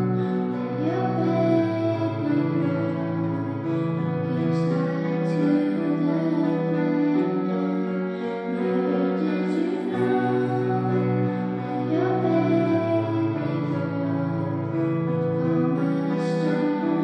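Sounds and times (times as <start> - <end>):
electric keyboard chords: 0.0 - 17.0
woman singing softly: 0.0 - 17.0.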